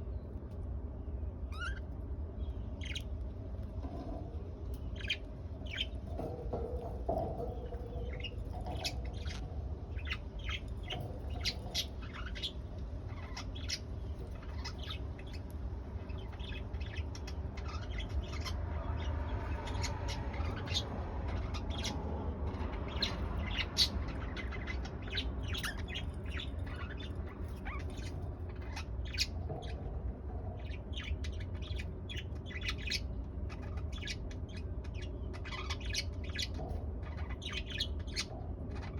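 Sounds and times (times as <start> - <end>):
steady low hum: 0.0 - 38.9
budgerigars chirping: 1.5 - 3.1, 3.8 - 38.9.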